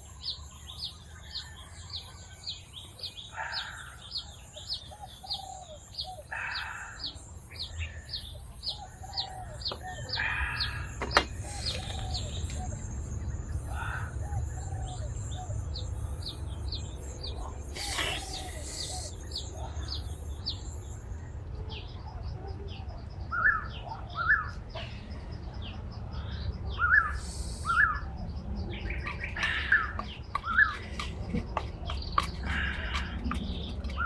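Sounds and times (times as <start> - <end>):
louder paired bird calls: 0.0 - 20.8, 23.2 - 34.0.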